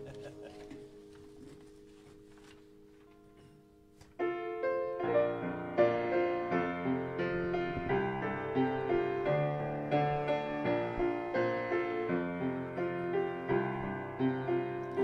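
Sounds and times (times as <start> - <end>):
slow piano chords with melody: 0.0 - 15.0.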